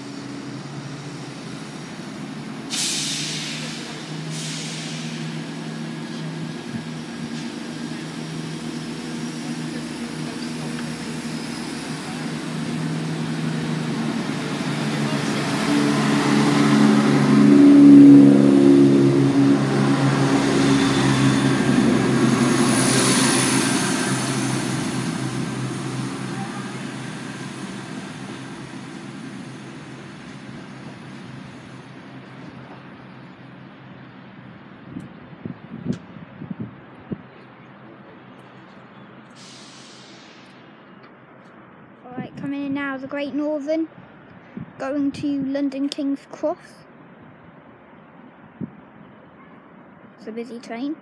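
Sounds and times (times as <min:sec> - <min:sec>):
diesel train passing: 0:00.0 - 0:51.0.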